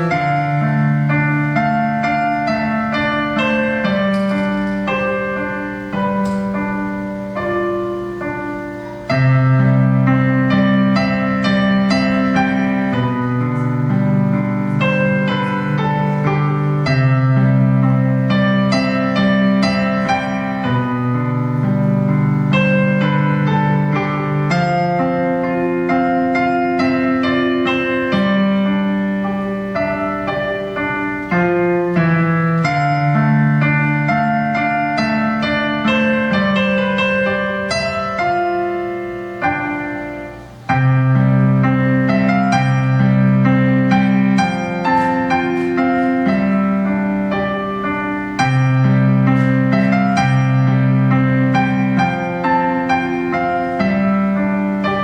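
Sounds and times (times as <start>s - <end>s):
slow piano chords: 0.0s - 55.0s.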